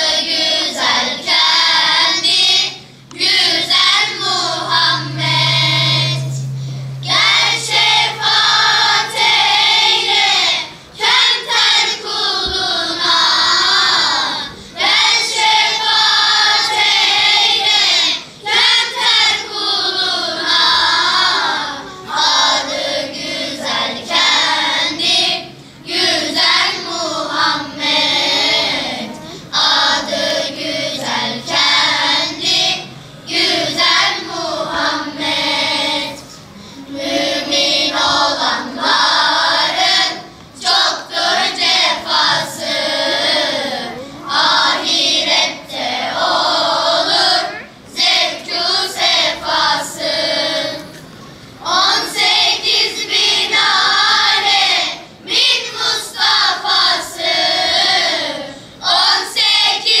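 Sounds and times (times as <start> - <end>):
children's choir singing: 0.0 - 60.0.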